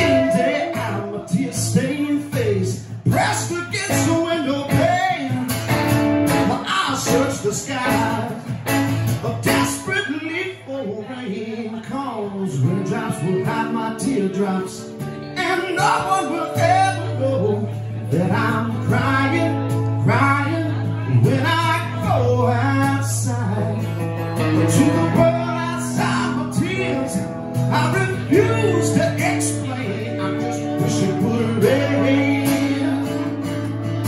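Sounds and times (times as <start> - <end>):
acoustic guitar strumming: 0.0 - 34.0
bending guitar melody: 0.0 - 34.0.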